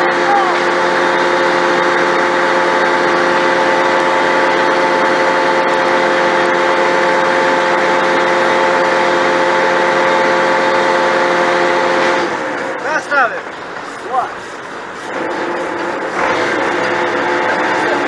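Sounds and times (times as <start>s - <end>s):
crane engine running: 0.0s - 18.0s
steady whine: 0.0s - 18.0s.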